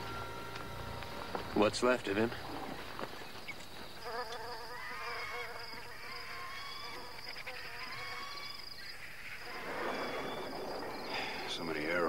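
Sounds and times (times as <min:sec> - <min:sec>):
flies buzzing: 0:00.0 - 0:12.0.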